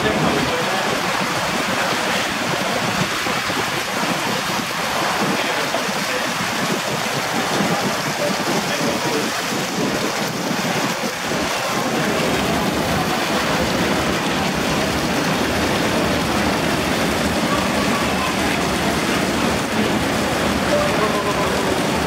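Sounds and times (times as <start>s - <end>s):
water rushing: 0.0s - 22.0s
wind: 0.0s - 22.0s.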